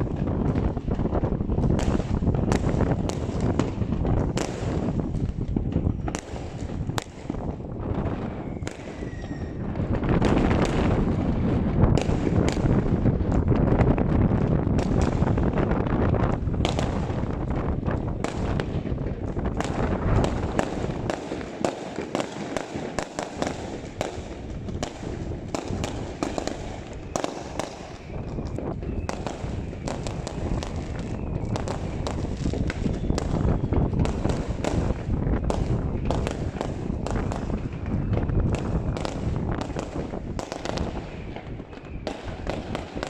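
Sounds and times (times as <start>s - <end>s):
low rumble of booms: 0.0s - 21.1s, 28.2s - 43.0s
fireworks bangs and crackles: 0.0s - 43.0s.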